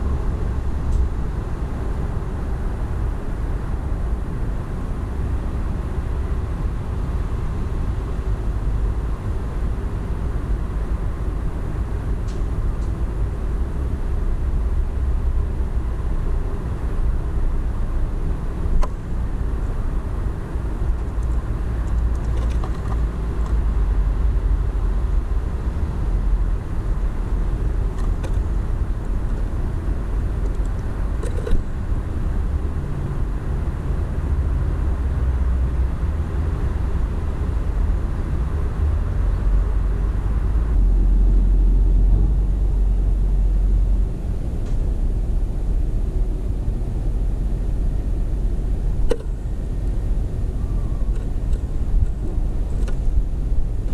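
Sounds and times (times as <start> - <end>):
road traffic rumble: 0.0 - 53.9.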